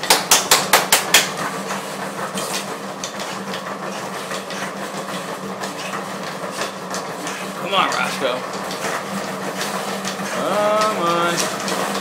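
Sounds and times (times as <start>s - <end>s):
treadmill humming: 0.0s - 12.0s.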